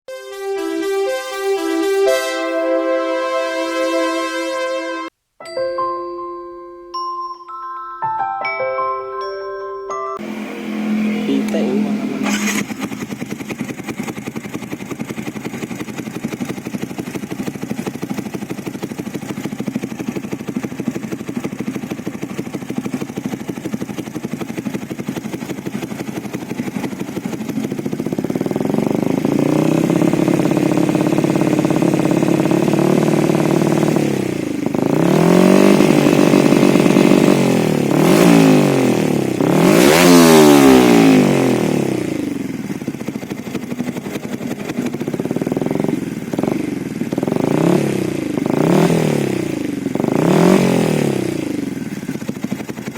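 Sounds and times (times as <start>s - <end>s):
motorcycle engine revving: 10.2s - 52.9s.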